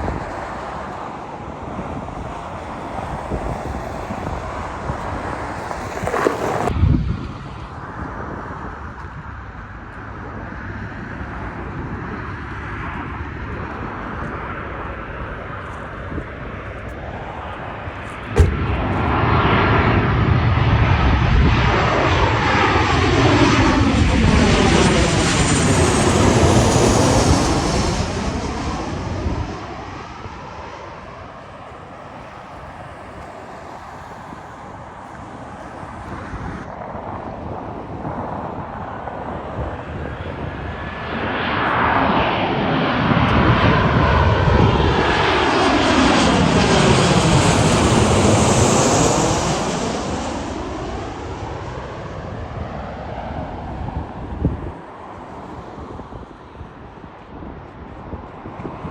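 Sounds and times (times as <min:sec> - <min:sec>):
aircraft engines passing: 0:00.0 - 0:58.9.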